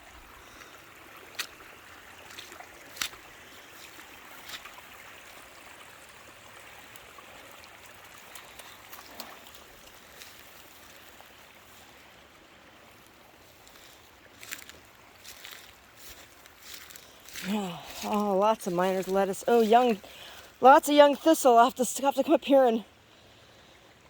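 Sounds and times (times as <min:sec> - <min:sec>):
water trickling in small stream: 0:00.0 - 0:24.0.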